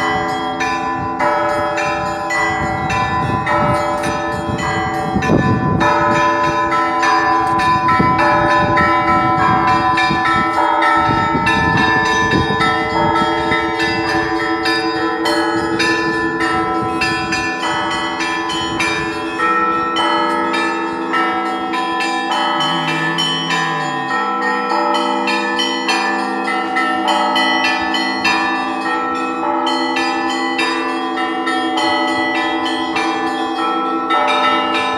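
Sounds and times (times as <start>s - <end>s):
church bells ringing: 0.0s - 34.9s.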